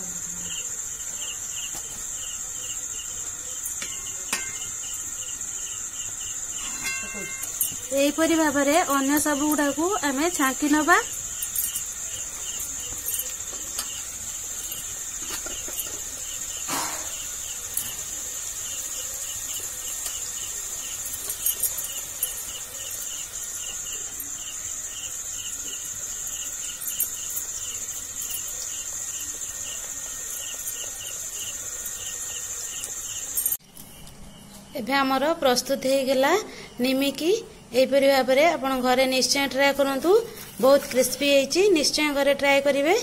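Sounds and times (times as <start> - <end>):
crickets trilling: 0.0 - 43.0.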